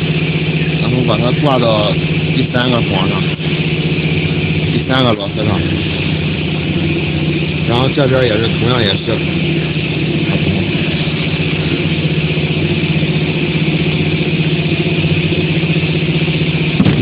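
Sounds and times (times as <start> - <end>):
motor humming with hiss: 0.0 - 17.0.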